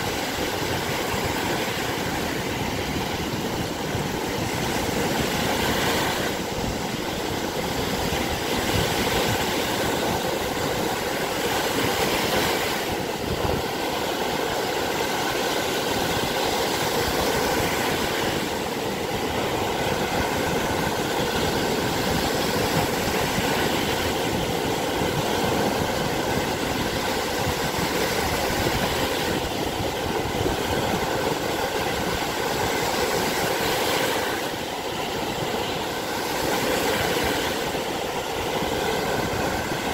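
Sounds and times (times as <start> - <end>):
waves washing on sandy shore: 0.0 - 39.9.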